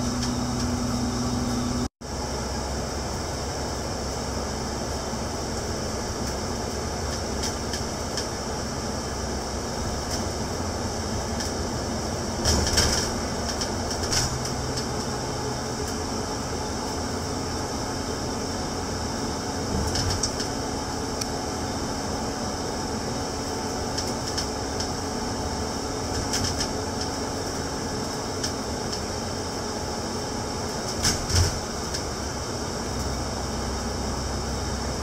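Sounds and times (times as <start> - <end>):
bus engine drone: 0.0 - 35.0
road noise: 0.0 - 35.0.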